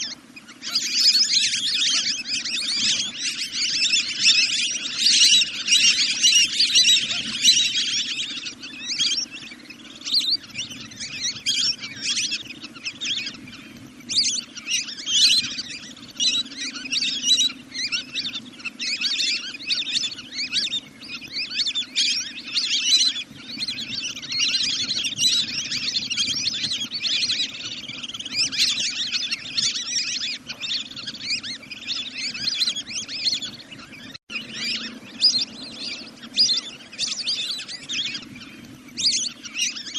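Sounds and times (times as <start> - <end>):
rapid high-pitched bird chirps: 0.0 - 39.9.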